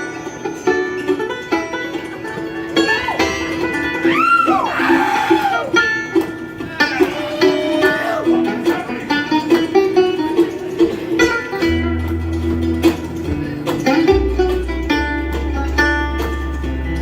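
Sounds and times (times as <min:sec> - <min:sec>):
bluegrass acoustic guitar and banjo: 0:00.0 - 0:17.0.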